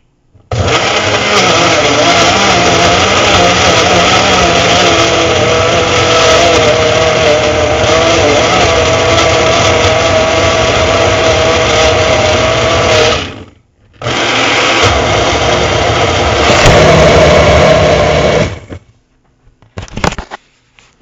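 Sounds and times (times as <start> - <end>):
blender motor running: 0.5 - 18.8.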